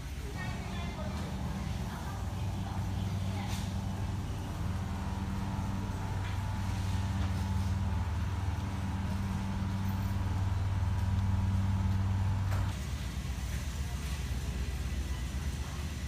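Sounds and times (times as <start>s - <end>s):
freezer refrigeration hum: 0.0s - 16.0s.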